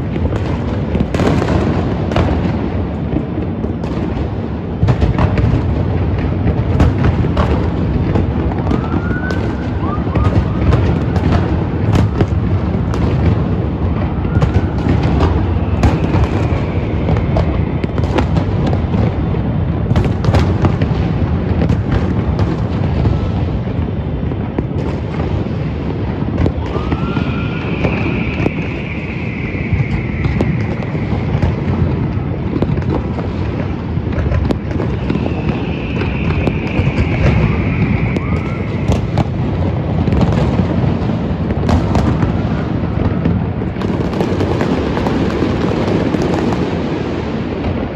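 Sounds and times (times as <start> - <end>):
fireworks bangs and crackles: 0.0 - 47.9
fireworks rumble: 0.0 - 47.9
rising firework whistles: 0.0 - 47.9.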